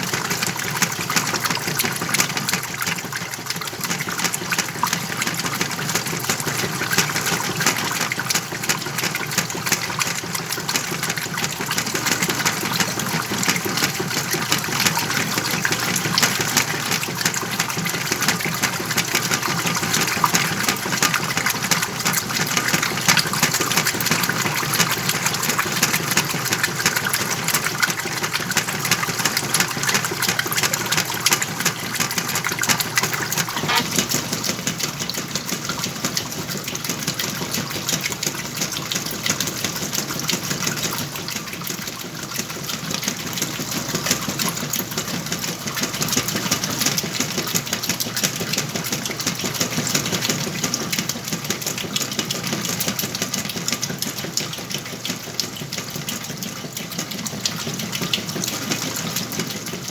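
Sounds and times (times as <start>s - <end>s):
washing machine motor running: 0.0s - 59.9s
water sloshing and rushing: 0.0s - 59.9s.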